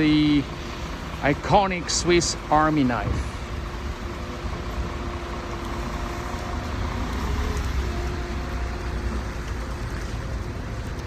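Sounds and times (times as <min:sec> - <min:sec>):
road traffic rumble: 0:00.0 - 0:11.0
vehicle engine humming: 0:00.0 - 0:11.0.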